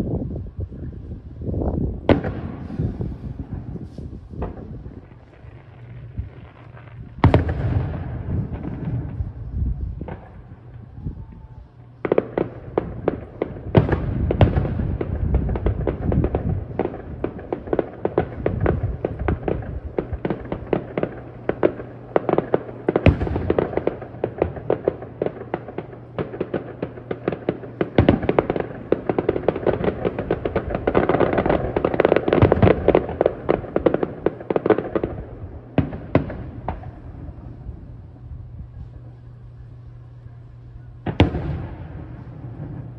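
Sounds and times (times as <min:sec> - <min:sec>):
fireworks bangs and crackles: 0:00.0 - 0:42.9
fireworks booms: 0:00.0 - 0:42.9.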